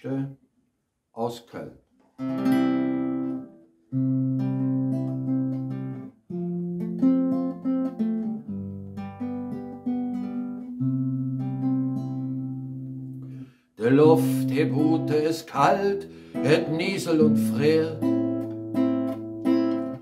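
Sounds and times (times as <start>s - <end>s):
acoustic guitar strummed chords: 2.2s - 20.0s.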